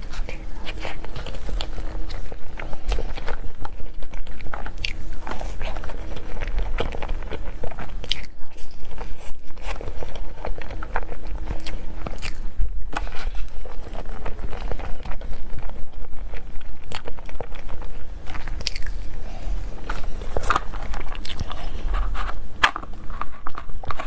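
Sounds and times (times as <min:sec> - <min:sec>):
person biting and chewing: 0:00.0 - 0:24.0.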